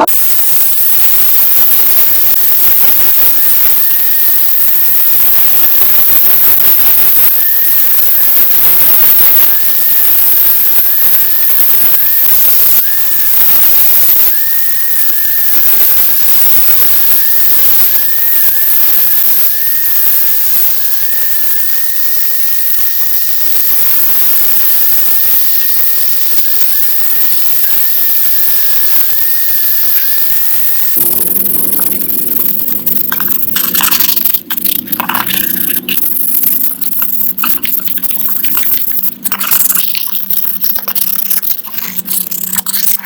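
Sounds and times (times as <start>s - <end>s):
power tool motor whining: 0.0s - 43.0s.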